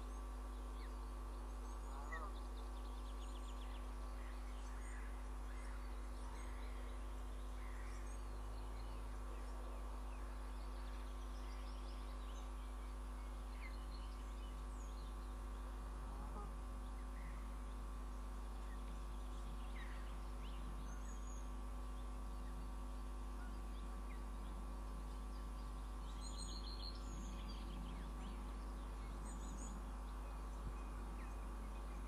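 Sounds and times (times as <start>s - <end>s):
steady electrical hum: 0.0s - 32.0s.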